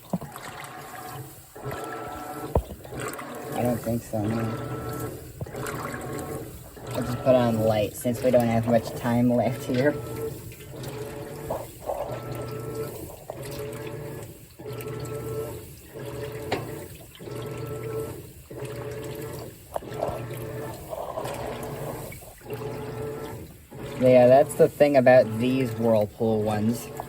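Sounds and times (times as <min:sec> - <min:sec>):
washing machine motor humming: 0:00.0 - 0:27.0
water sloshing: 0:00.0 - 0:27.0.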